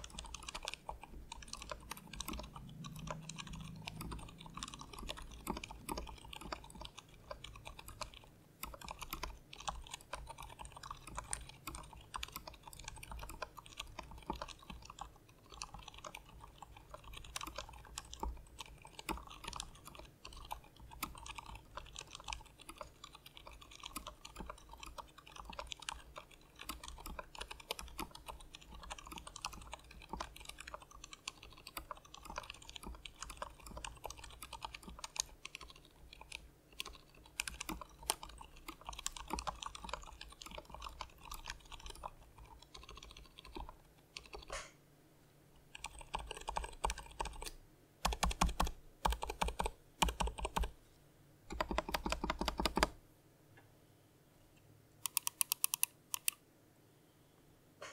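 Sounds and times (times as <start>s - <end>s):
mechanical keyboard typing: 0.0s - 44.7s, 45.7s - 50.8s, 51.5s - 53.0s, 55.0s - 56.4s.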